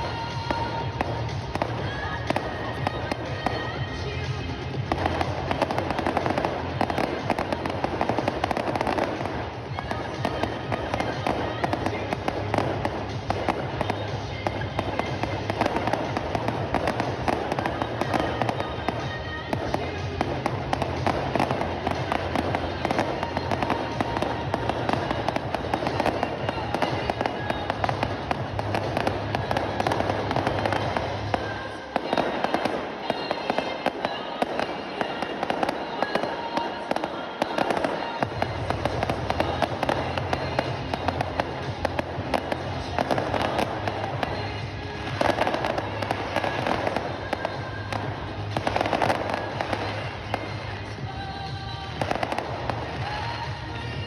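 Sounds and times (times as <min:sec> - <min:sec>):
fireworks crackling and popping: 0:00.0 - 0:54.0
music playing: 0:00.0 - 0:54.0.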